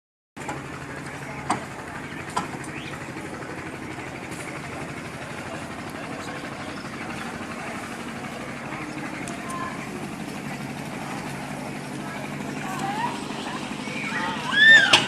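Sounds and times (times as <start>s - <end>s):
engine running steadily: 0.4s - 15.0s.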